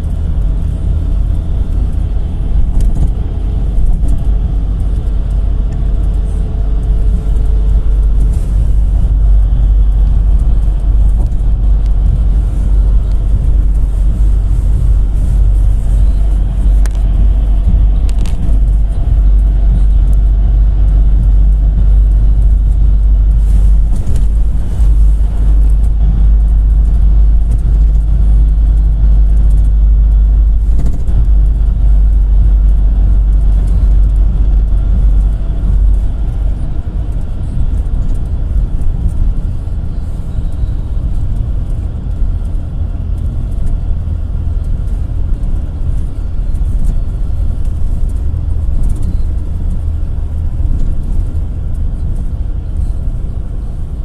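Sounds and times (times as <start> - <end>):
minibus engine and road rumble: 0.0 - 54.0.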